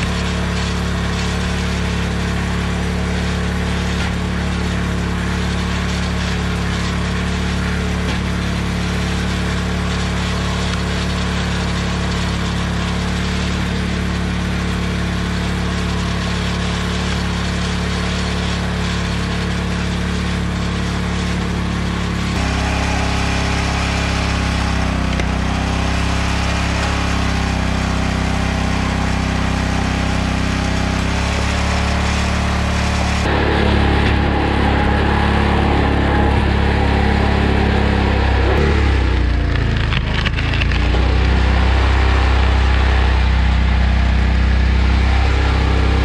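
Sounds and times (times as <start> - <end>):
small gasoline engine running: 0.0 - 46.0.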